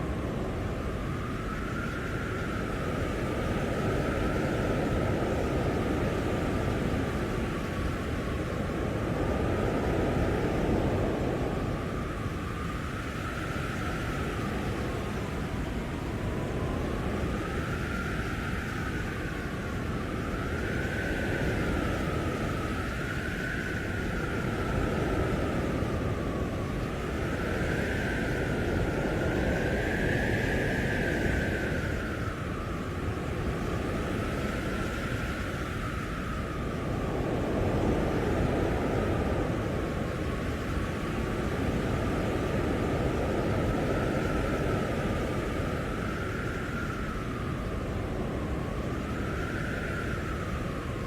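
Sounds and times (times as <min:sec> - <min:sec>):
blizzard wind blowing hard: 0:00.0 - 0:51.0.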